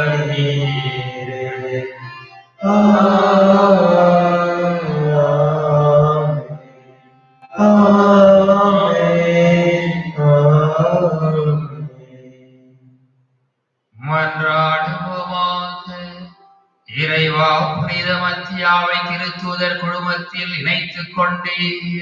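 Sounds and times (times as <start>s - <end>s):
man chanting a prayer: 0.0s - 2.0s, 2.6s - 6.6s, 7.6s - 12.2s, 14.0s - 16.3s, 16.9s - 22.0s.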